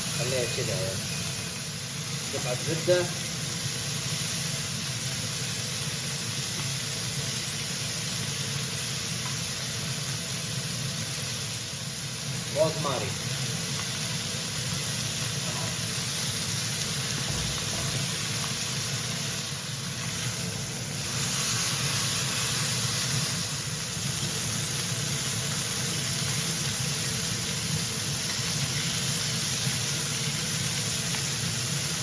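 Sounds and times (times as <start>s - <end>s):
steak sizzling in a pan: 0.0s - 32.0s.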